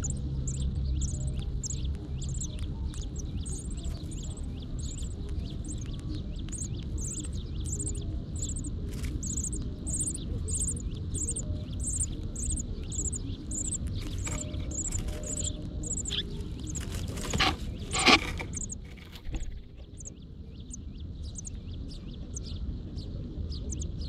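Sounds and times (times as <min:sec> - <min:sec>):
high thin bird chirps: 0:00.0 - 0:20.2.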